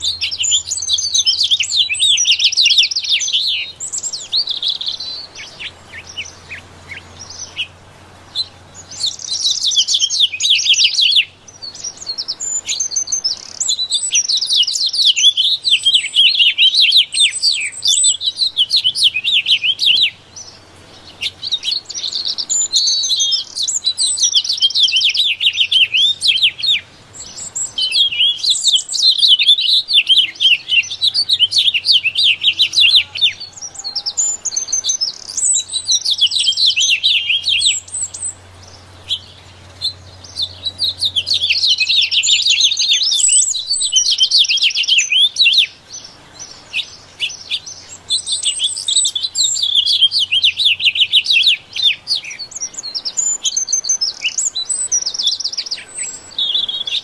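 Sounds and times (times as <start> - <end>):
songbird twittering: 0.0 - 57.0.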